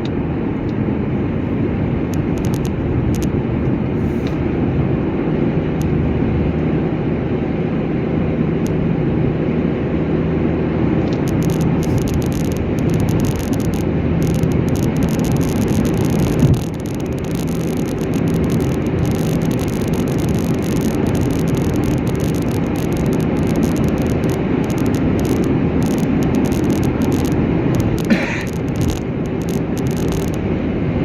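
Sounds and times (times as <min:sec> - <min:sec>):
car engine and tyre road noise: 0:00.0 - 0:31.0.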